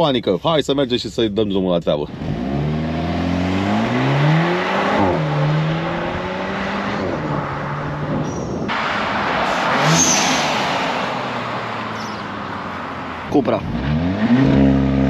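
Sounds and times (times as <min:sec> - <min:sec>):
road and wind noise: 0:00.0 - 0:15.0
car engine accelerating: 0:02.1 - 0:15.0.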